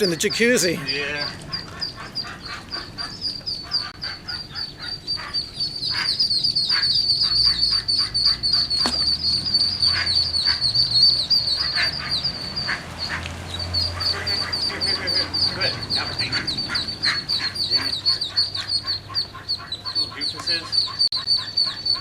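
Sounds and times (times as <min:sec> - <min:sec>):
ducklings peeping: 0:00.0 - 0:22.0
mother duck calling: 0:00.0 - 0:22.0.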